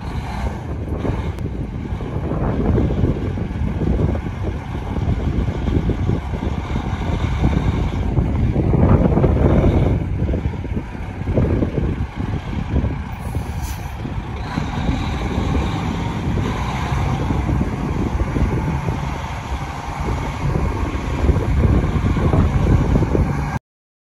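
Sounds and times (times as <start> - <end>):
diesel truck engine running: 0.0 - 23.6.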